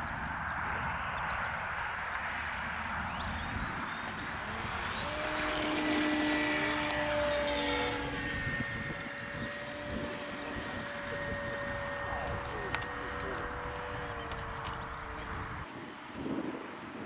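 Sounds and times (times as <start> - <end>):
model aeroplane motor whining: 0.0 - 15.7.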